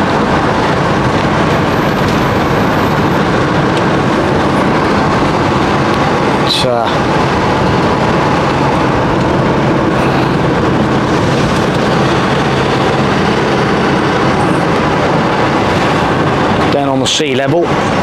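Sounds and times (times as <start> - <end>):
road and engine noise: 0.0 - 18.0.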